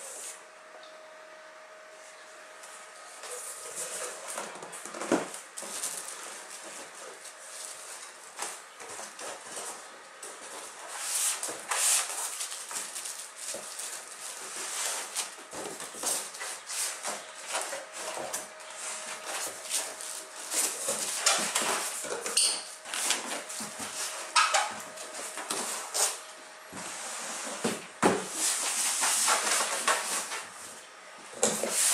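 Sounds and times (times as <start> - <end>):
cardboard scraping and rustling: 3.2 - 30.8.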